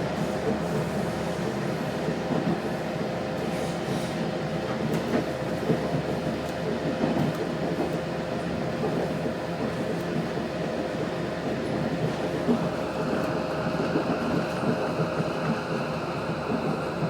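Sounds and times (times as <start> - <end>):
railcar wheels and engine rumble: 0.0 - 17.0.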